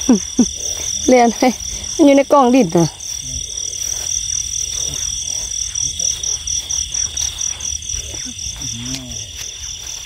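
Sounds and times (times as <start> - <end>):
frogs calling low: 0.0 - 10.0
insects chirping in pulses: 0.0 - 10.0.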